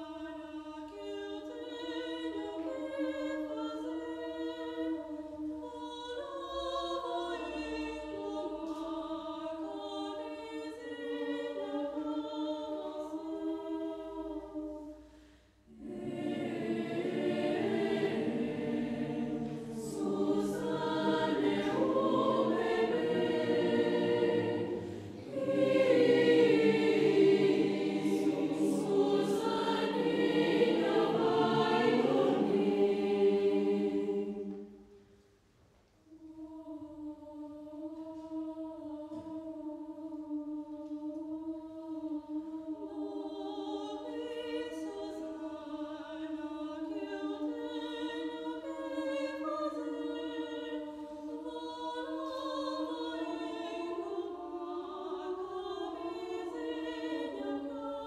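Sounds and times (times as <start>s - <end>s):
mixed choir singing: 0.0s - 14.9s, 15.7s - 34.8s, 36.2s - 58.0s.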